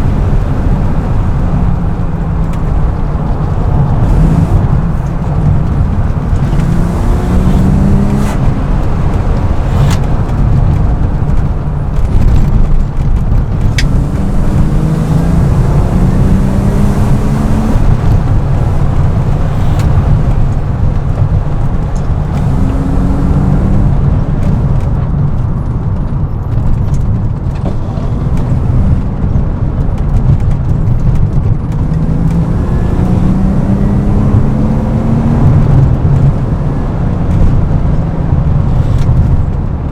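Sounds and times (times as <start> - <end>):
car engine accelerating: 0.0 - 39.9
heavy road rumble: 0.0 - 39.9.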